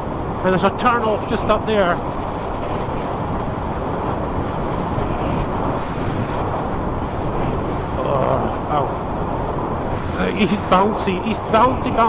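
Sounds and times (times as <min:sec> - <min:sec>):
road noise: 0:00.0 - 0:12.0
wind rush on microphone: 0:00.0 - 0:12.0.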